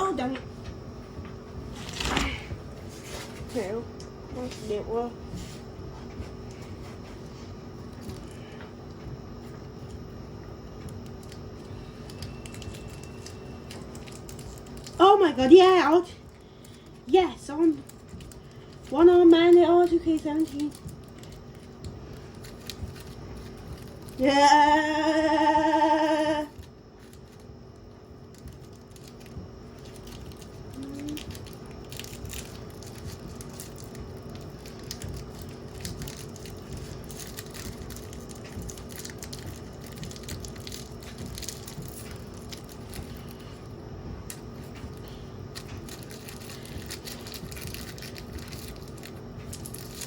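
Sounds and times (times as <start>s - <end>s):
washing machine motor hum: 0.0s - 50.0s.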